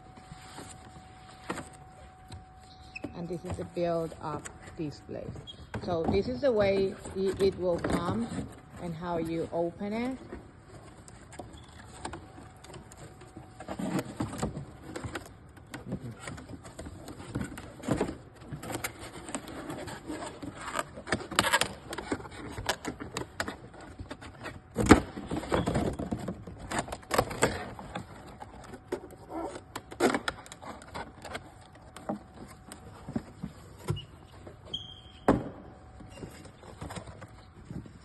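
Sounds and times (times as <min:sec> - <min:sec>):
cardboard rustling and scraping: 0:00.0 - 0:38.0.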